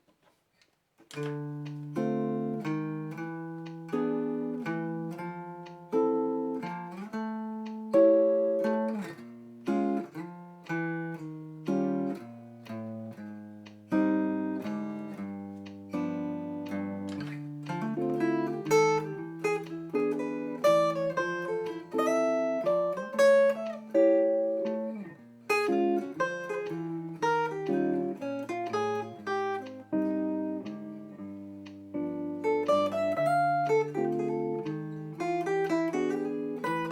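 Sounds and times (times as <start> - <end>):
acoustic guitar playing: 1.0 - 36.9.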